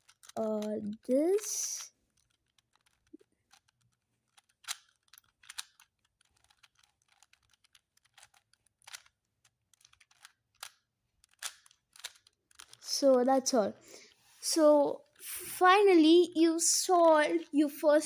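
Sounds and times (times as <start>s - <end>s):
puzzle cube layers clicking: 0.0s - 13.7s, 14.4s - 18.0s.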